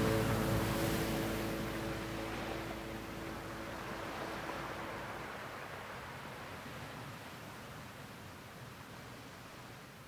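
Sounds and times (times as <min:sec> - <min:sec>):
faint steady rushing noise: 0:00.0 - 0:10.0.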